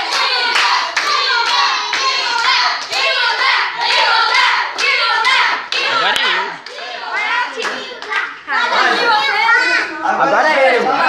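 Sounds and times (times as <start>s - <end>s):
group clapping in rhythm: 0.0s - 9.2s
voices chanting: 0.0s - 11.0s.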